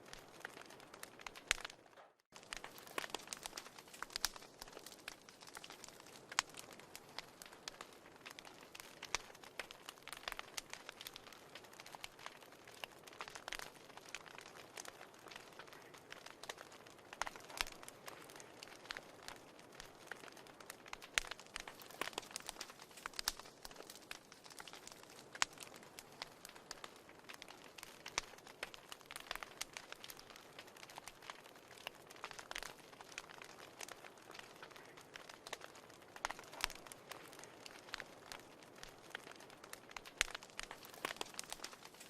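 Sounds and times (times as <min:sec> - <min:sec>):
wood fire crackling in fireplace: 0:00.0 - 0:42.0.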